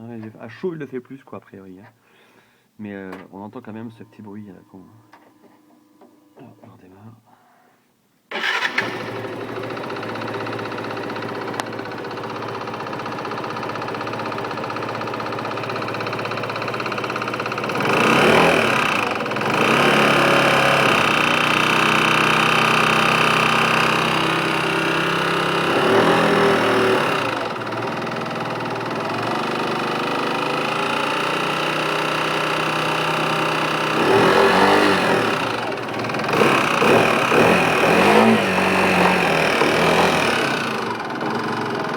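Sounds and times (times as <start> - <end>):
engine rattling clicking noise: 8.3 - 41.9
scooter engine idling and revving: 8.3 - 41.9.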